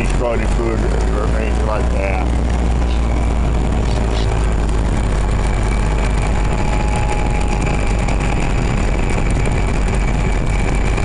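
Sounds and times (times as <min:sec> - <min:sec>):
golf cart engine running: 0:00.0 - 0:11.0.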